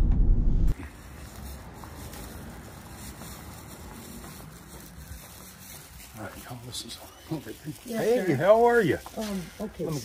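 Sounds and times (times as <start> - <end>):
faint background noise: 0.7 - 10.0.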